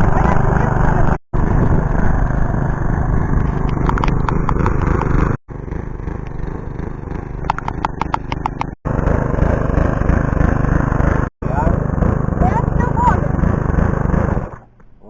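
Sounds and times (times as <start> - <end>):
lawnmower engine running: 0.0 - 14.9.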